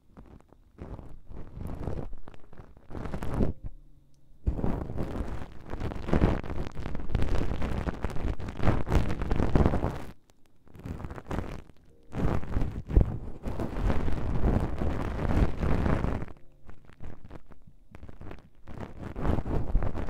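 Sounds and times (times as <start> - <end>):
scratchy rustling on microphone: 0.0 - 3.7, 4.4 - 20.0.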